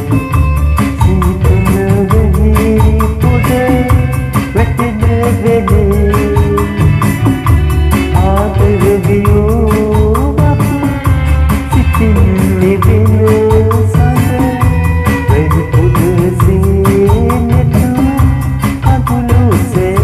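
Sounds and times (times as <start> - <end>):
electronic music with heavy bass: 0.0 - 20.0.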